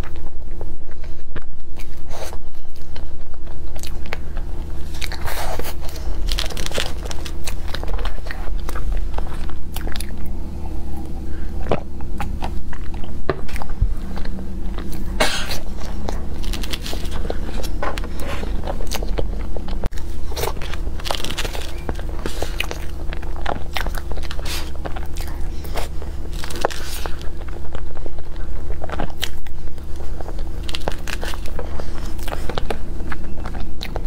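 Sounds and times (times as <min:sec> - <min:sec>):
steady low hum: 0:00.0 - 0:34.0
wet chewing and smacking: 0:00.0 - 0:34.0.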